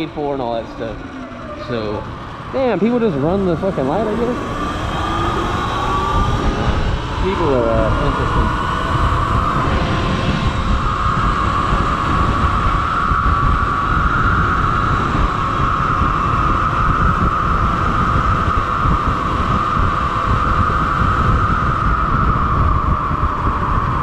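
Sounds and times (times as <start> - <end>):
electric motor high whine: 0.0 - 24.0
wind buffeting microphone: 0.0 - 24.0.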